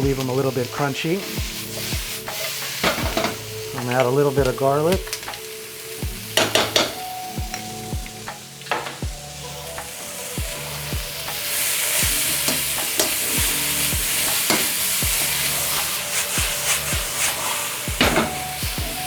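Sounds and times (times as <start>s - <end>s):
background music with steady beat: 0.0s - 19.0s
vegetables sizzling in frying pan: 0.0s - 19.0s.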